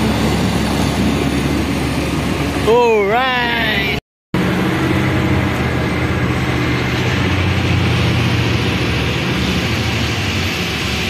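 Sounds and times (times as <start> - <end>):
diesel truck engine hum: 0.0 - 11.0.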